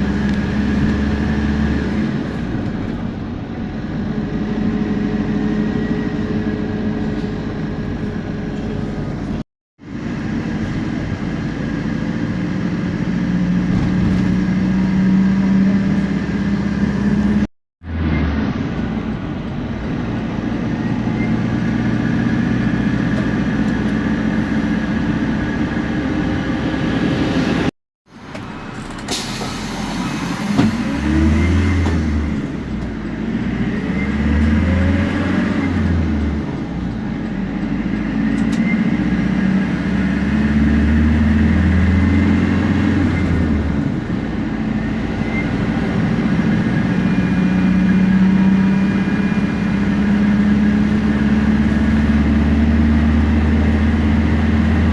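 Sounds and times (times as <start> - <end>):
bus engine accelerating: 0.0 - 54.9.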